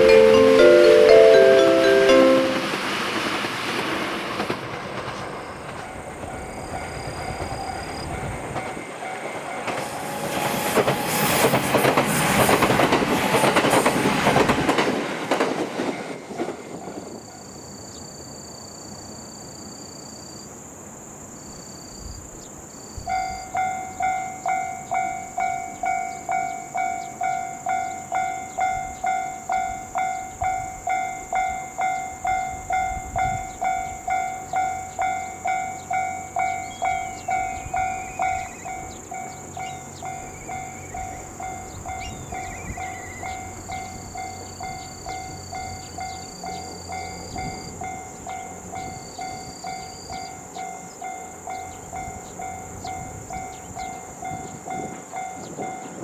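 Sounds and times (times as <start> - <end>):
level-crossing alarm dinging: 0.0 - 3.0, 5.4 - 14.8, 23.1 - 56.0
electric train passing: 0.0 - 19.9, 20.5 - 56.0.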